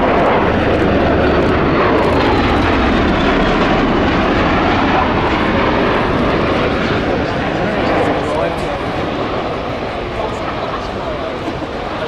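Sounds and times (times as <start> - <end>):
tilt-rotor aircraft flying past: 0.0 - 12.0.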